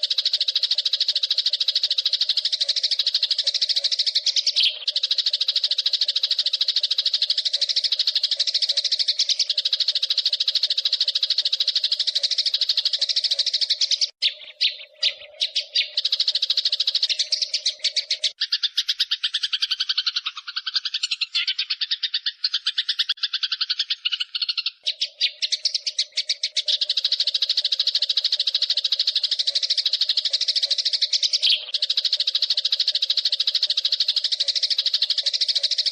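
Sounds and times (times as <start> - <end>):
sparrows chattering: 0.0 - 35.9.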